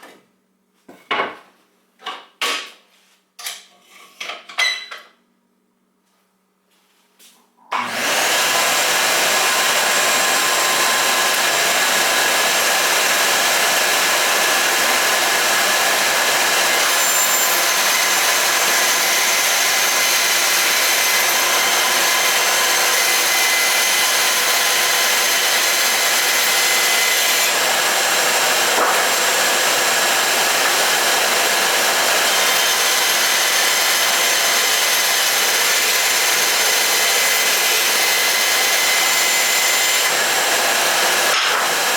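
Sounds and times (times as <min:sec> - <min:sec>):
shop vacuum motor running: 0:07.7 - 0:41.9.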